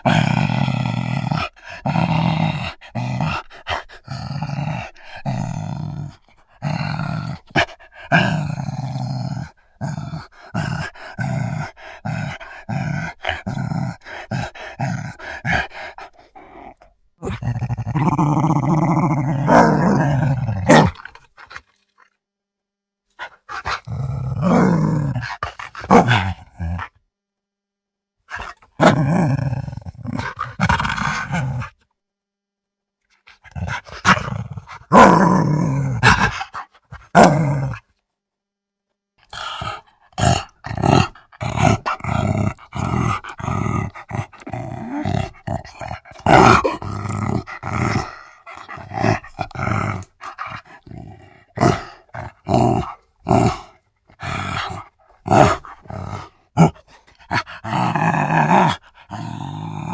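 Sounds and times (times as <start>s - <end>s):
dog growling: 0.0s - 21.3s, 23.2s - 27.0s, 28.3s - 31.8s, 33.3s - 37.8s, 39.2s - 59.9s.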